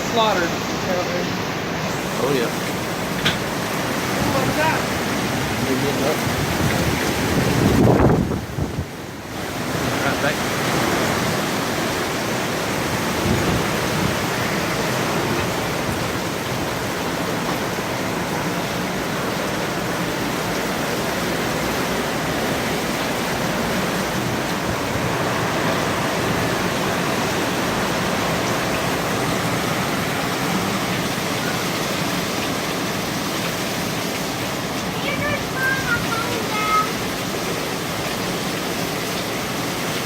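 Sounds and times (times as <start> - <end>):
strong wind driving rain: 0.0 - 40.0.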